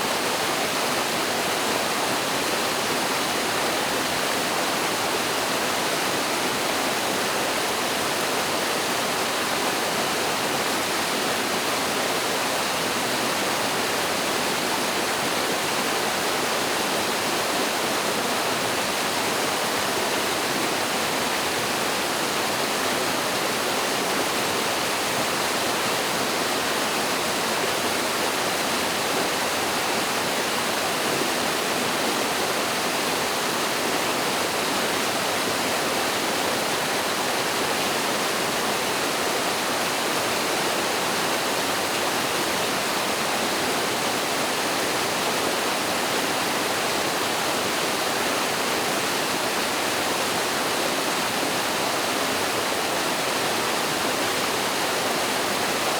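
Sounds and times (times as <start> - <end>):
stream pouring over waterfall: 0.0 - 55.9.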